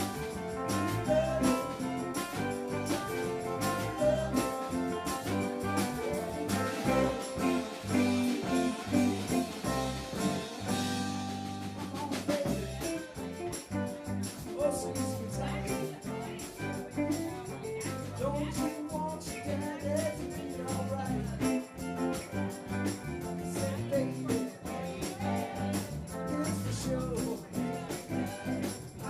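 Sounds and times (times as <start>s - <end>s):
drum kit beat: 0.0s - 29.0s
live rock band playing: 0.0s - 29.0s.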